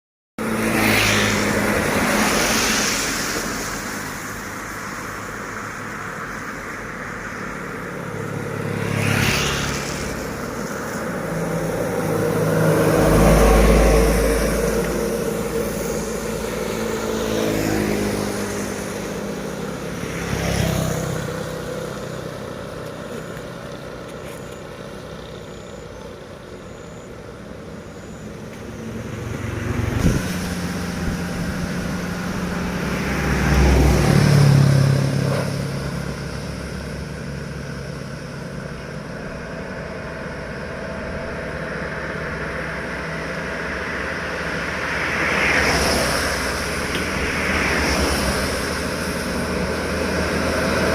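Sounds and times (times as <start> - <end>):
diesel engines under load: 0.4 - 50.9
heavy trucks passing: 0.4 - 50.9.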